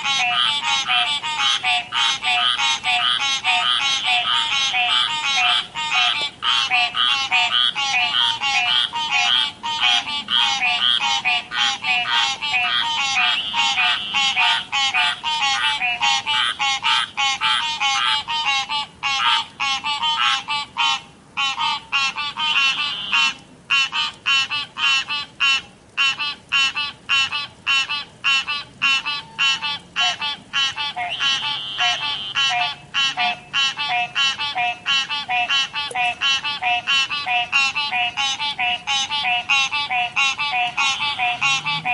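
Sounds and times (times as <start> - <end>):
frogs croaking in chorus: 0.0 - 41.9.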